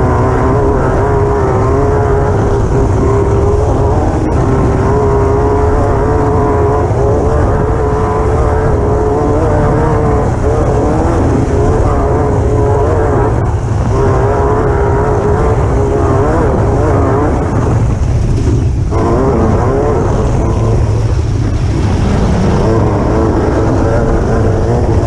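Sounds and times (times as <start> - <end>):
heavy road noise: 0.0 - 25.0
race buggy engine running hard: 0.0 - 25.0.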